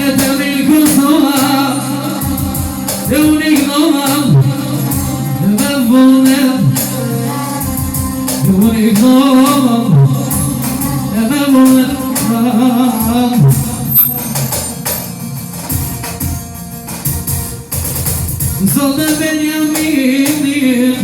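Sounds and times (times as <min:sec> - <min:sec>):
solo voice singing: 0:00.0 - 0:15.1, 0:18.6 - 0:21.0
steady held accompaniment: 0:00.0 - 0:21.0.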